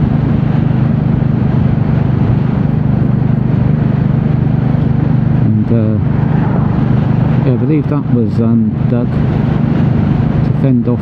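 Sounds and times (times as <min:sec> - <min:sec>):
motorcycle engine cruising: 0:00.0 - 0:11.0
wind noise: 0:00.0 - 0:11.0.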